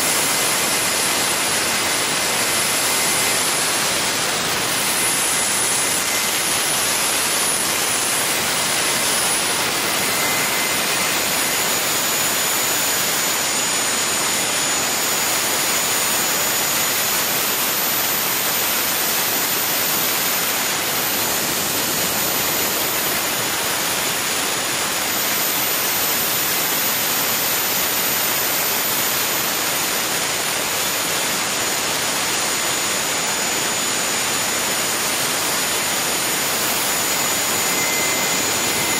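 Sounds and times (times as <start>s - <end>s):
gas turbine roaring with high whine: 0.0s - 38.9s.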